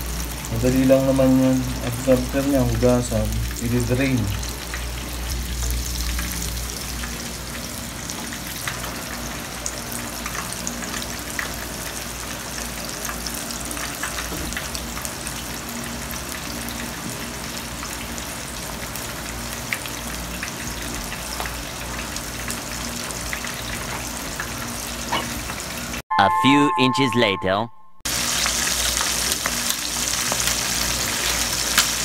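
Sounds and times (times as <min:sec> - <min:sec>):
shrimp deep-frying in oil: 0:00.0 - 0:26.0, 0:28.1 - 0:32.0.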